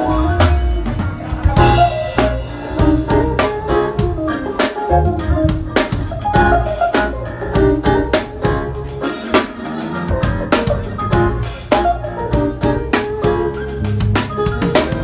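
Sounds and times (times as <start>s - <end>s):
bass guitar: 0.0s - 15.0s
drum kit groove: 0.0s - 15.0s
sustained keyboard chords: 0.0s - 15.0s.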